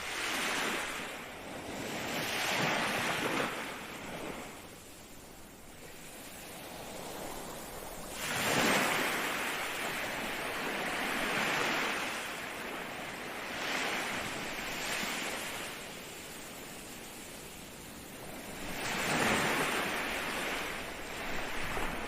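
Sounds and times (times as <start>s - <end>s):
ocean waves breaking: 0.0s - 16.8s, 17.4s - 22.0s.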